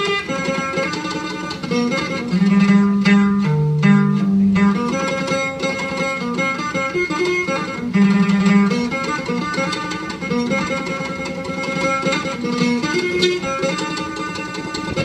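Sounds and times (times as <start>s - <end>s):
plucked string instruments melody: 0.0s - 15.0s.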